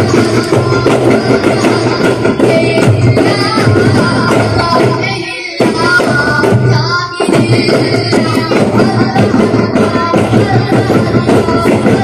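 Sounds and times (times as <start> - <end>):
boys singing together: 0.0 - 12.0
frame drums beating: 0.0 - 12.0.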